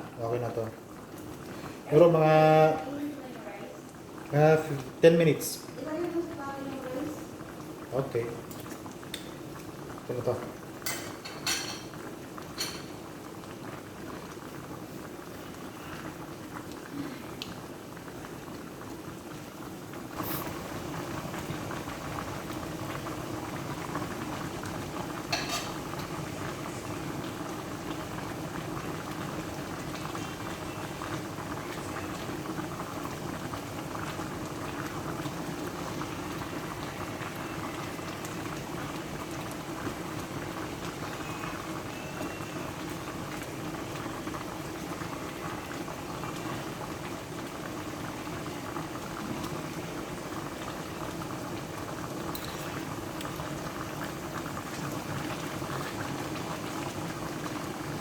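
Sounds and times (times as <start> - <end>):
sauce bubbling in a pan: 0.0 - 58.0.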